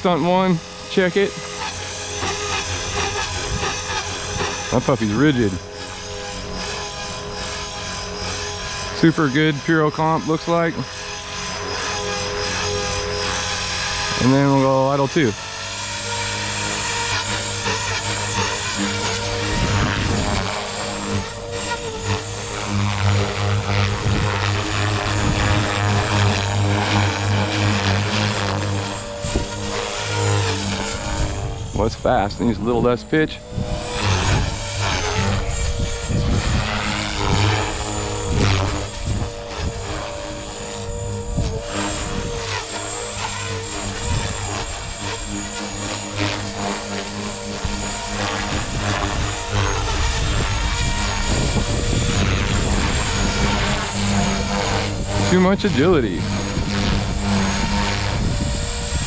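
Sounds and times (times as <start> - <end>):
rc helicopter buzzing drone: 0.0 - 59.0.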